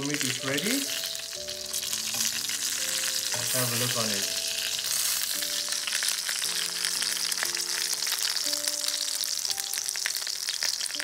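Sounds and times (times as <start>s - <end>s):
pork sizzling in a skillet: 0.0s - 11.0s
soft piano music: 0.0s - 11.0s.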